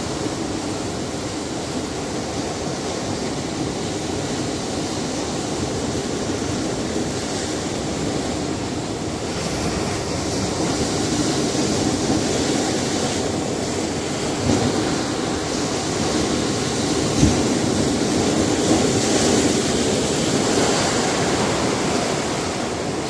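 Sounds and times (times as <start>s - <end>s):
surf washing against rocky shore: 0.0s - 23.0s.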